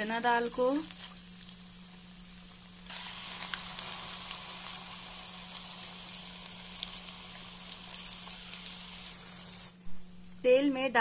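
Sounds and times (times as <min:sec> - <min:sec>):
oil sizzling with crackling pops: 0:00.0 - 0:09.8.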